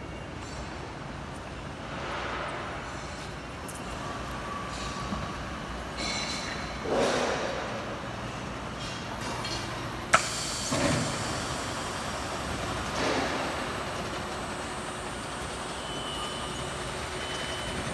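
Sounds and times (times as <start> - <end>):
roller conveyor machine noise: 0.0 - 17.9.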